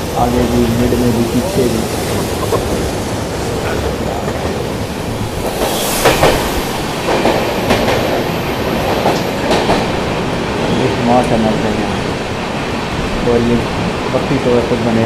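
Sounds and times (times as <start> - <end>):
wheels clacking over rail joints: 0.0 - 14.4
train rumbling: 0.0 - 15.0.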